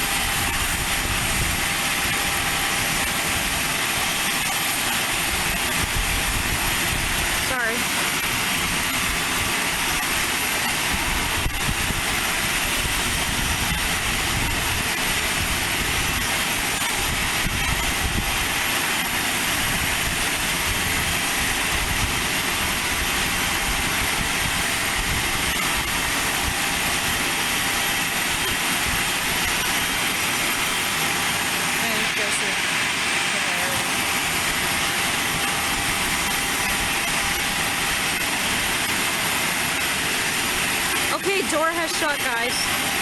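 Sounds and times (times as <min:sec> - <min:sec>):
aircraft engine hiss and hum: 0:00.0 - 0:43.0.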